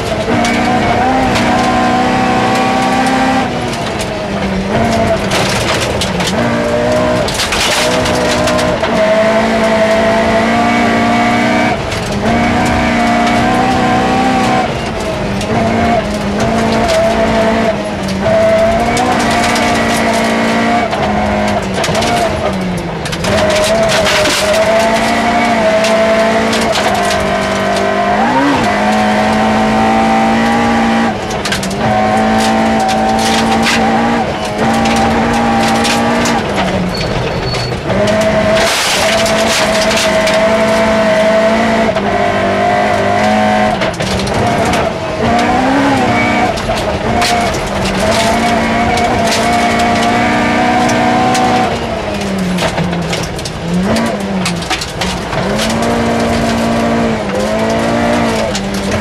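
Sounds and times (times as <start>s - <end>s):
car engine at high revs: 0.0s - 59.0s
gravel clattering under car: 0.0s - 59.0s.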